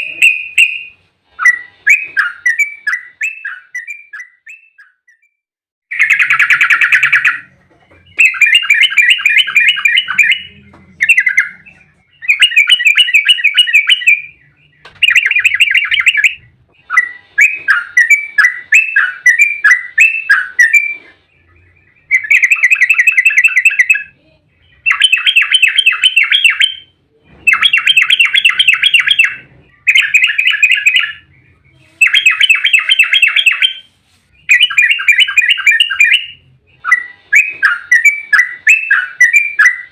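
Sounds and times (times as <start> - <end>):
bulbul rattling song: 0.0 - 5.3, 5.9 - 39.9.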